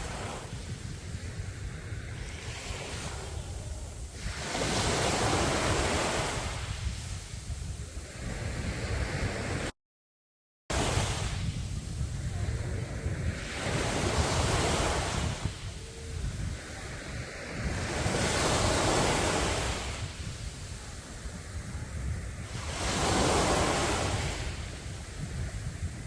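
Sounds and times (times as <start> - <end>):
sea waves breaking on beach: 0.0 - 9.7, 10.7 - 26.0.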